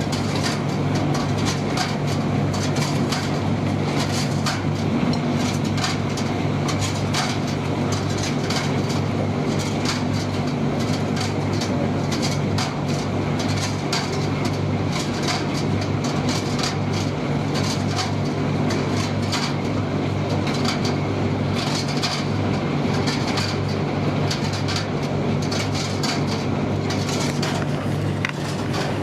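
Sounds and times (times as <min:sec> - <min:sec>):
tumble dryer motor hum: 0:00.0 - 0:29.0.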